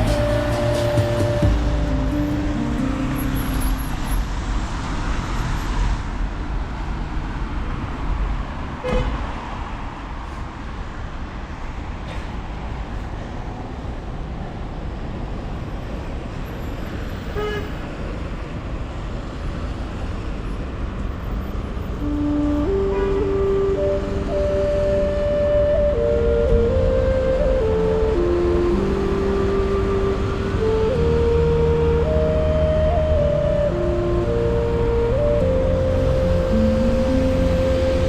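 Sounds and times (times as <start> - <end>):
street traffic: 0.0 - 38.0.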